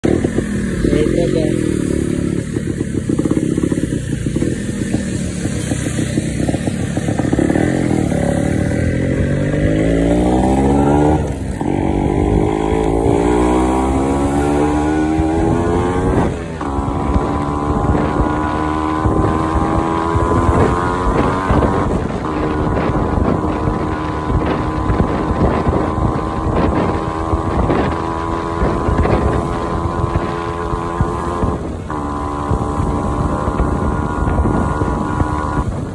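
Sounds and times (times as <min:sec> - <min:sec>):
two-stroke engine accelerating: 0:00.0 - 0:35.9.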